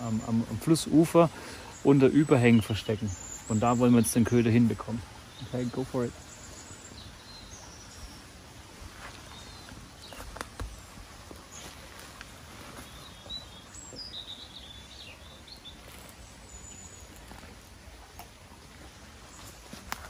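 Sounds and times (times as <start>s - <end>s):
songbirds chirping: 0.0s - 20.0s
stream running over riffle: 0.0s - 20.0s.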